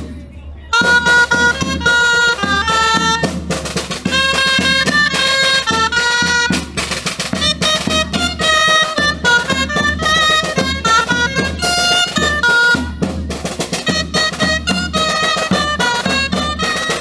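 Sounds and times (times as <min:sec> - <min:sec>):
drum beating: 0:00.0 - 0:17.0
shawms playing folk tune: 0:00.7 - 0:17.0.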